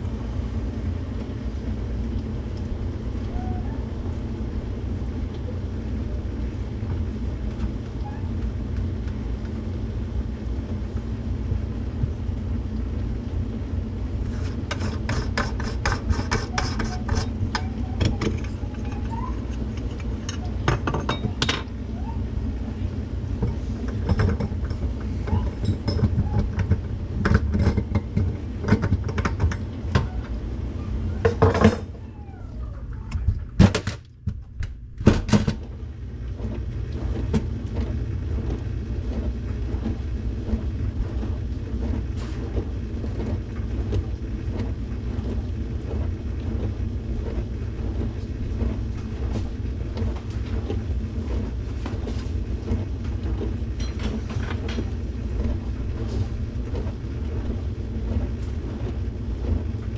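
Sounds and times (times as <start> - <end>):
steady low rumble: 0.0 - 16.3, 16.9 - 59.9.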